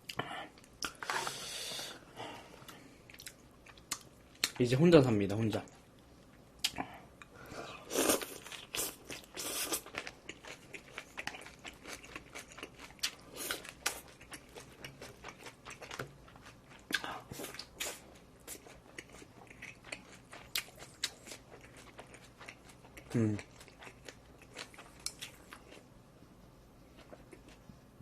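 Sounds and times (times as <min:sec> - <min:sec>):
person chewing food: 0:02.5 - 0:04.6, 0:05.7 - 0:25.9, 0:26.9 - 0:27.7.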